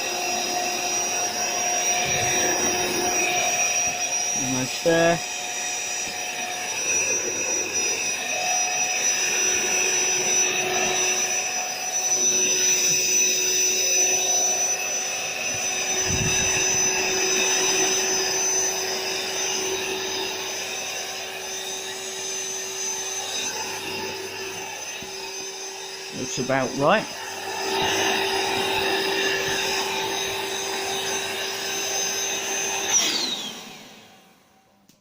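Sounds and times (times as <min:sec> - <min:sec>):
electric air pump whirring: 0:00.0 - 0:35.0.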